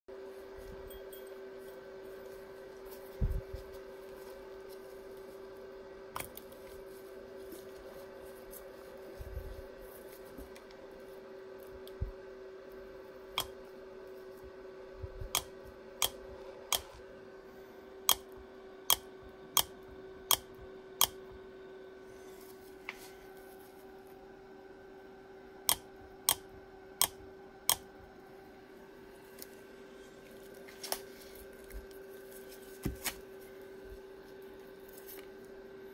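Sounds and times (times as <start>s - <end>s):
steady hum: 0.1s - 35.9s.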